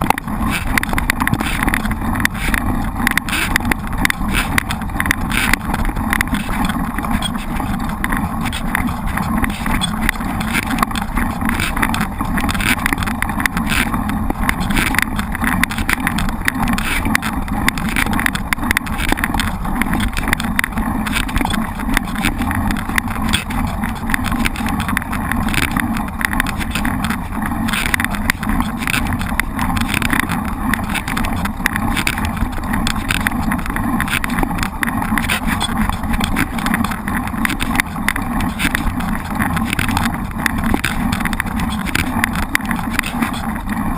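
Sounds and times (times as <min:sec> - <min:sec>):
bike knocks and rattles: 0:00.0 - 0:43.9
wind and tyres rushing: 0:00.0 - 0:43.9.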